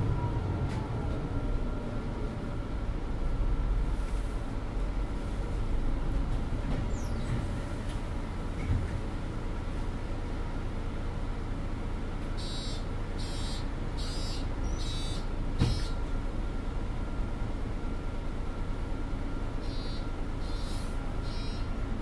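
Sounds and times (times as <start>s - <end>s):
bus engine low rumble: 0.0s - 22.0s.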